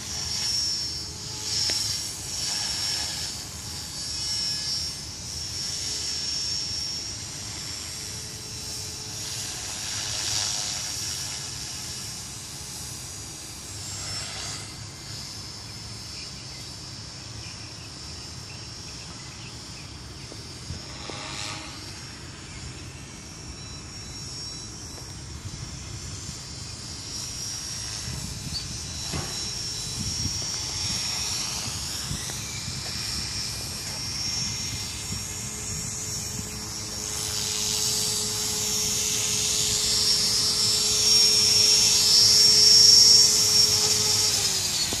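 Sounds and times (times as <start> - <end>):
rc helicopter motor whine: 0.0 - 45.0.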